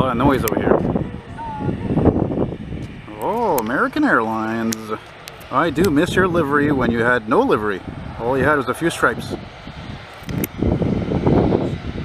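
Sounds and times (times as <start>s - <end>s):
low steady rumble: 0.0s - 12.0s
wind buffeting microphone: 0.0s - 12.0s.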